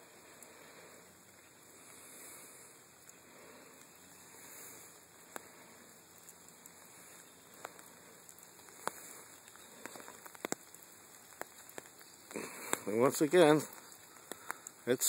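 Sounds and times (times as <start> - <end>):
faint rain on wet pavement: 0.0 - 15.0
sharp drips ticking: 0.0 - 15.0.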